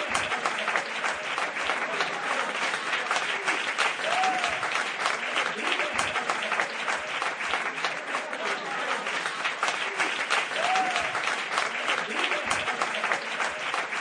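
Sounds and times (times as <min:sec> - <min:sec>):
crowd applause: 0:00.0 - 0:14.0.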